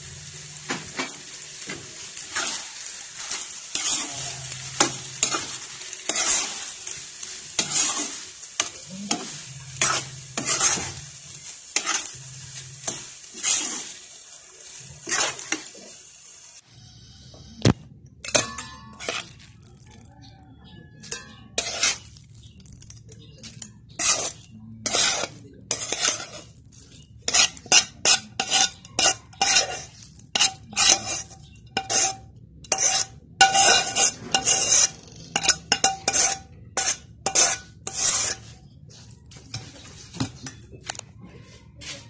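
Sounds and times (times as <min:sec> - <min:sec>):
spatula scraping and clanking metal: 0:00.6 - 0:15.9, 0:18.2 - 0:19.5, 0:20.6 - 0:41.0.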